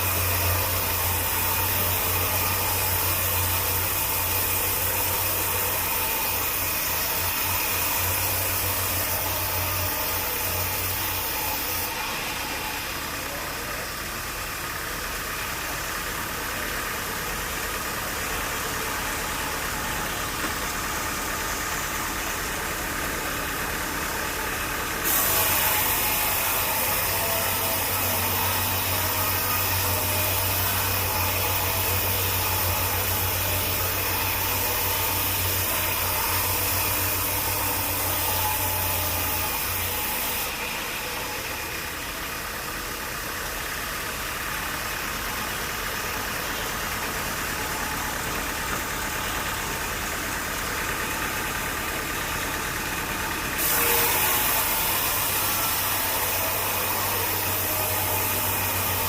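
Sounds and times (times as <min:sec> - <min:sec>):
engine running with low hum: 0:00.0 - 0:59.0.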